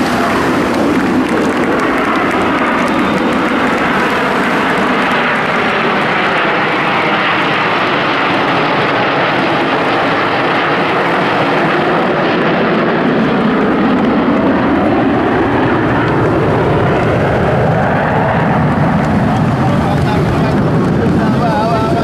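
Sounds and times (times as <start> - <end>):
jet planes roaring past: 0.0 - 22.0.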